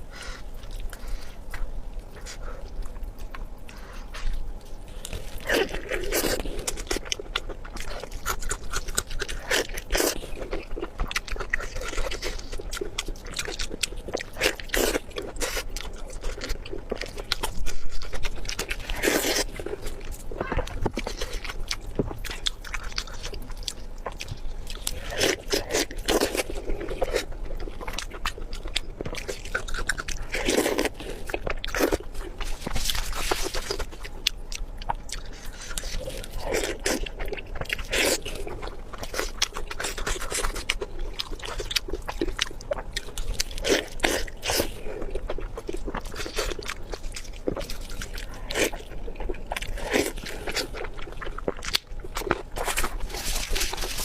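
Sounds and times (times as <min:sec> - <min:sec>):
crunchy chewing and biting: 0:00.0 - 0:54.0.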